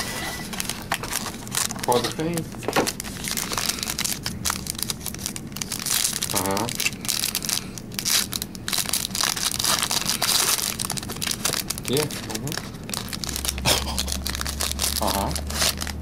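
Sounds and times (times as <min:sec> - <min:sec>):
foil pack crinkling and tearing: 0:00.0 - 0:16.0.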